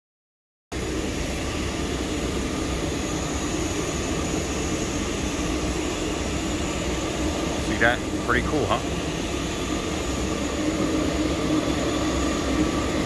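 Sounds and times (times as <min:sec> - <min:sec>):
machinery drone with low rumble: 0:00.8 - 0:13.0.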